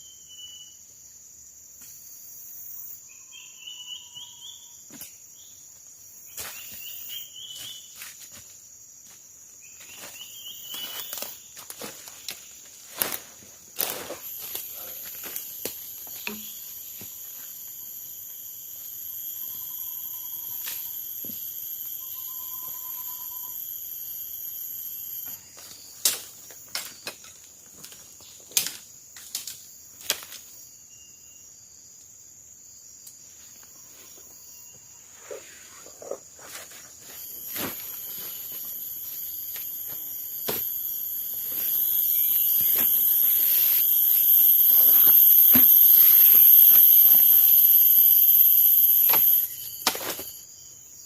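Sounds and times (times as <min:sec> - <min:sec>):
insects buzzing and shrilling: 0:00.0 - 0:51.0.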